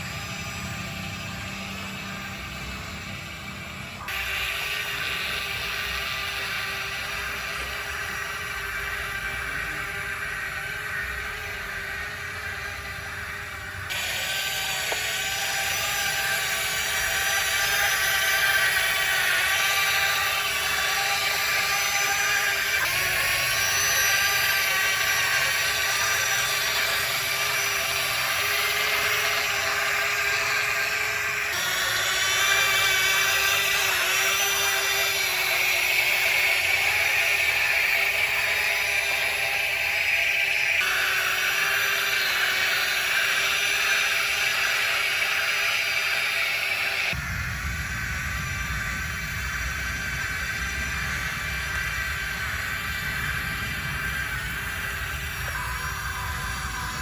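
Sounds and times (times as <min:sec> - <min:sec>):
model excavator motors whining: 0:00.0 - 0:57.0.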